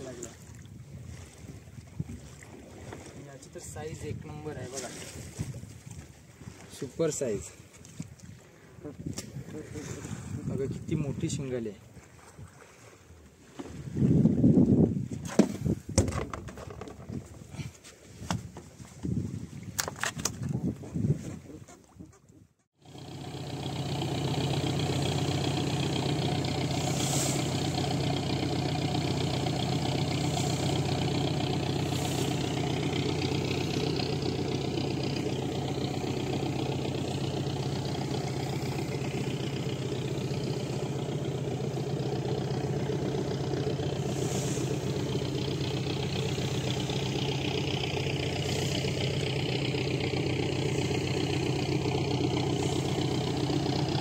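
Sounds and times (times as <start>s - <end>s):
water rushing past hull: 0.0s - 17.5s, 23.1s - 54.0s
boat engine running: 0.0s - 54.0s.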